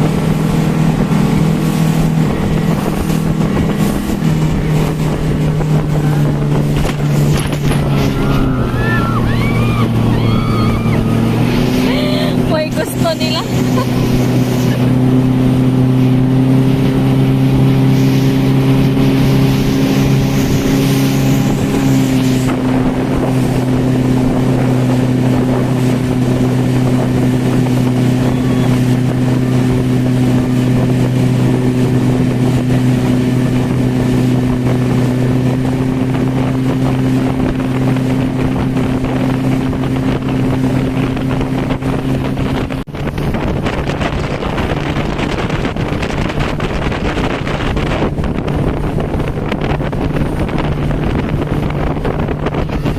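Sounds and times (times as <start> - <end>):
motorboat engine running: 0.0 - 52.9
rushing water: 0.0 - 52.9
wind on microphone: 0.0 - 52.9.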